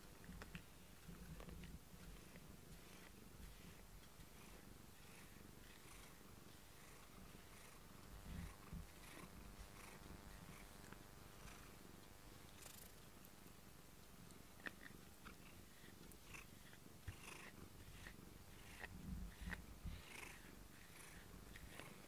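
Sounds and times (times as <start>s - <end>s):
cat purring faintly: 0.0s - 22.0s.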